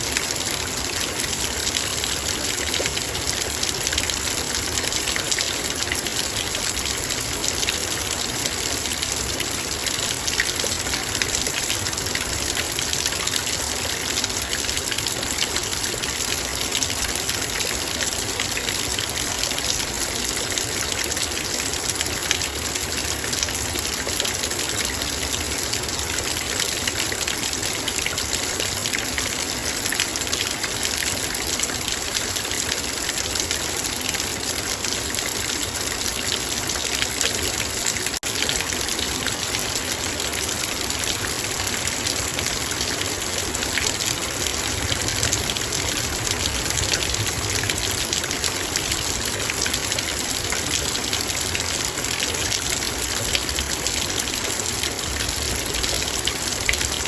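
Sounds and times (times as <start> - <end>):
heavy rain on a metal bowl: 0.0 - 57.0.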